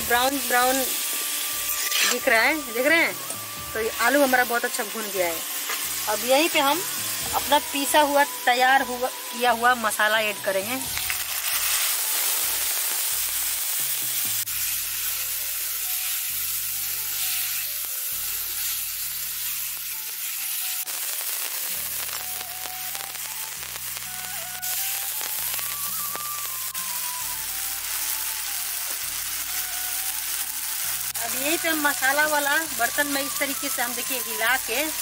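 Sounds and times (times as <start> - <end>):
soft background music: 0.0 - 35.0
spice paste sizzling: 0.0 - 35.0.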